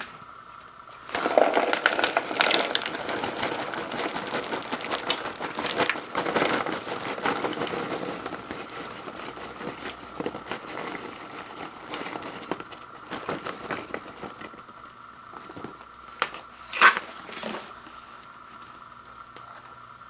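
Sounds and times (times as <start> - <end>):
packaging rustling and crinkling: 0.9 - 17.8.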